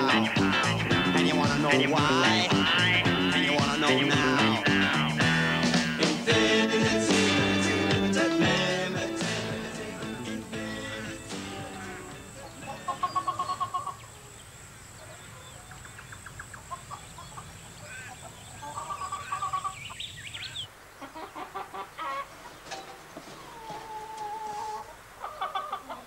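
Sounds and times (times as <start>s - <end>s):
hens cackling rapidly: 0.0s - 14.4s, 15.0s - 26.0s
hens clucking: 0.0s - 14.4s, 15.0s - 26.0s.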